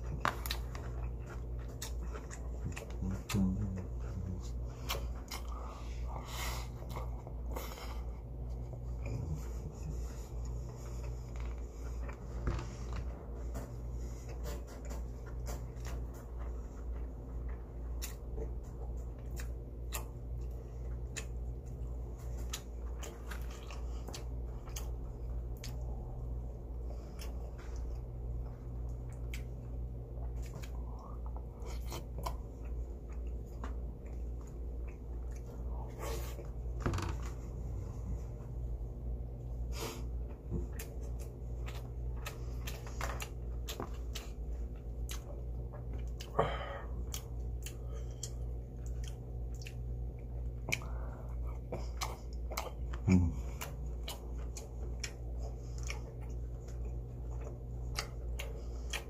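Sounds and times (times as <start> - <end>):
person chewing: 0.0 - 59.0
steady low hum: 0.0 - 59.0.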